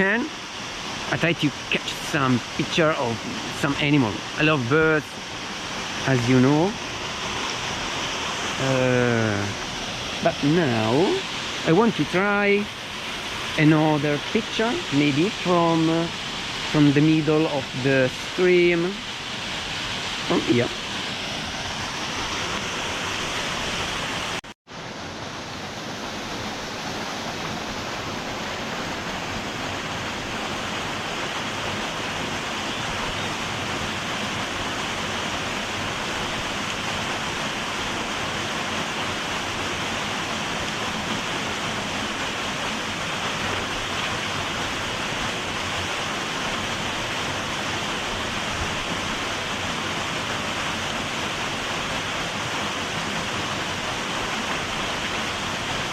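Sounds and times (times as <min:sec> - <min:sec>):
stream and small waterfall rushing: 0:00.0 - 0:55.9.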